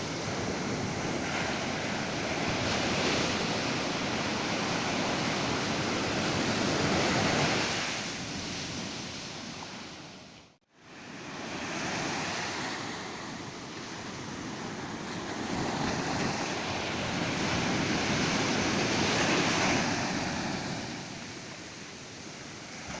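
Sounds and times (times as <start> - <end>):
waves breaking on a beach: 0.0 - 23.0.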